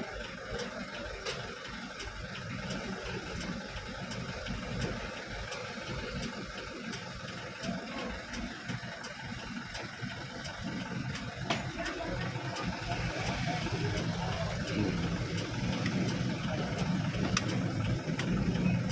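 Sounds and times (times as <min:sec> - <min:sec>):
faint light ticks: 0:00.0 - 0:18.9
truck engine rumbling: 0:00.0 - 0:18.9.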